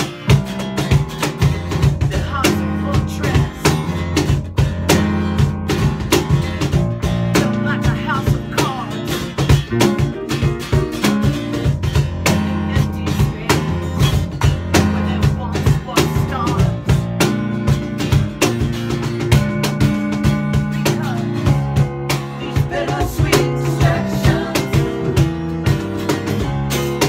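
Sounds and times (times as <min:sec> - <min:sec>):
acoustic guitar: 0:00.0 - 0:27.0
drum kit beat: 0:00.0 - 0:27.0.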